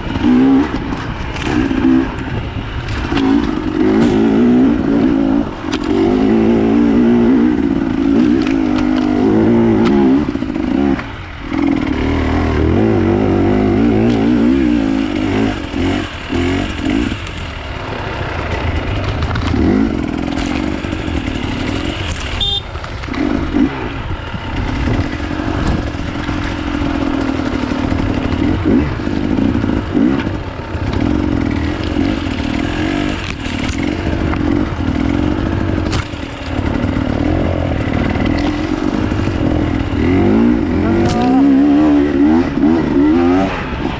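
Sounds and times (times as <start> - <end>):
dirt bike engine revving: 0.0 - 43.9
knocks and clatter over ground: 0.0 - 43.9.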